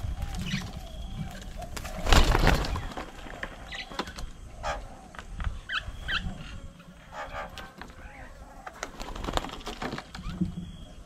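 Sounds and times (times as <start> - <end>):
bird chirps: 0.0 - 8.8, 10.1 - 11.0
dove cooing: 0.0 - 11.0.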